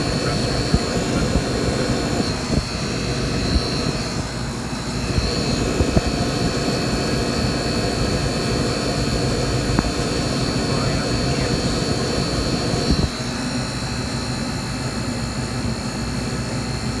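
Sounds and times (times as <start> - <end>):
thin high whine: 0.0 - 16.6
refrigeration unit humming: 0.0 - 17.0.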